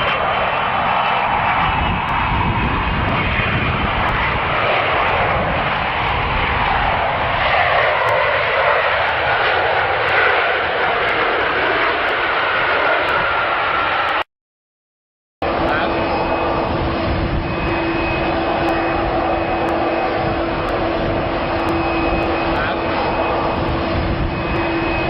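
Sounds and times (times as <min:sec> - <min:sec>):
jet engines running: 0:00.0 - 0:14.3, 0:15.4 - 0:25.0.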